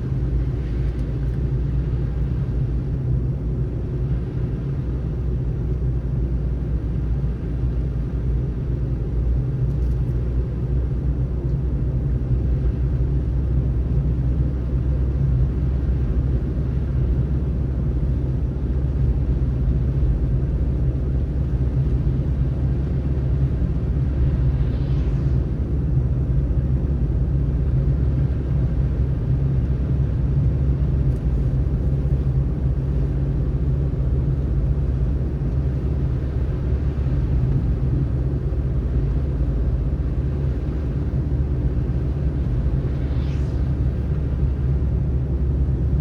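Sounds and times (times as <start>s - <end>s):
car driving on snowy road: 0.0s - 46.0s.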